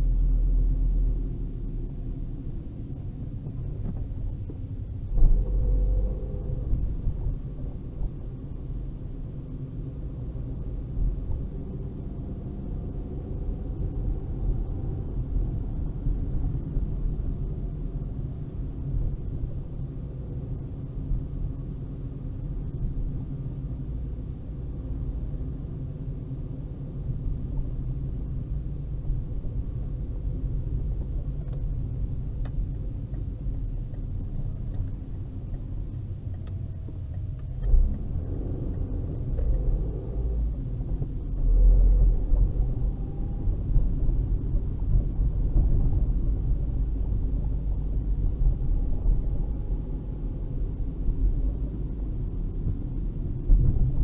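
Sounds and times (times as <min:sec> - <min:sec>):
car cabin low rumble: 0:00.0 - 0:54.0.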